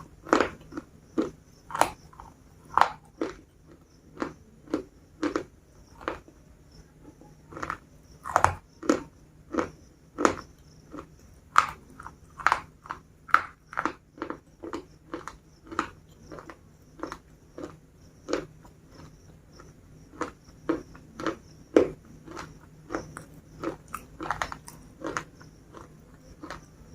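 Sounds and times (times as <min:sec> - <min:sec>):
crunching crisp biscuits: 0:00.0 - 0:26.9.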